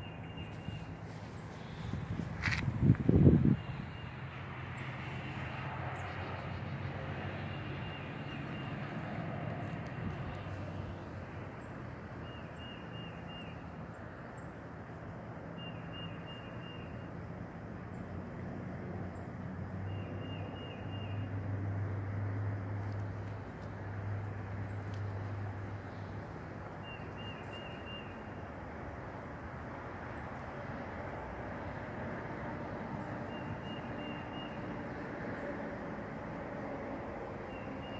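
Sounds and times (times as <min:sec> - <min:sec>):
vehicle engine humming: 0:00.0 - 0:37.9.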